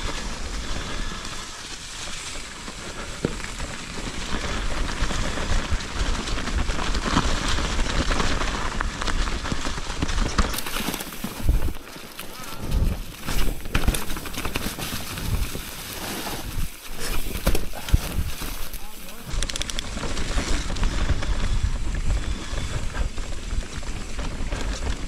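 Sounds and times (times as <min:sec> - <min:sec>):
bike rattling over bumps: 0:00.0 - 0:25.0
bike tyres over leaves and dirt: 0:00.0 - 0:25.0.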